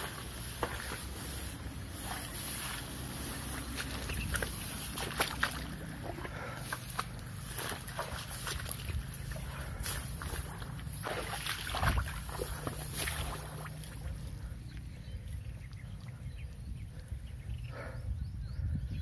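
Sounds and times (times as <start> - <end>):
harvester engine rumbling: 0.0 - 15.6
wet mud sounds: 0.0 - 16.4.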